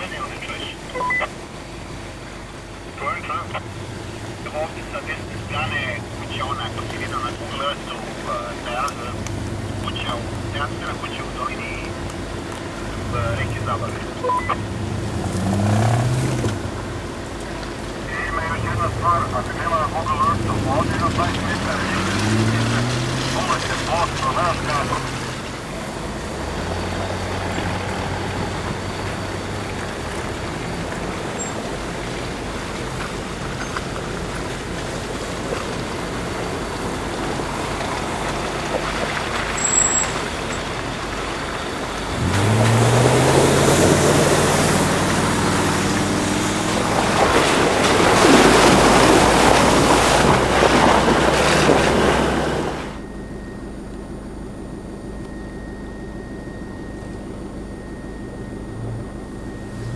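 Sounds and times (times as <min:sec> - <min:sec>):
tyres rushing: 0:00.0 - 0:53.1
suv engine humming and revving: 0:00.0 - 0:59.9.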